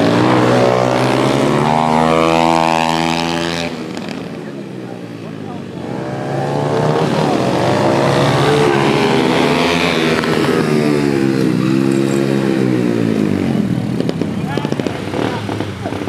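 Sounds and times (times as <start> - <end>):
small motorbike engines revving: 0.0 - 16.0.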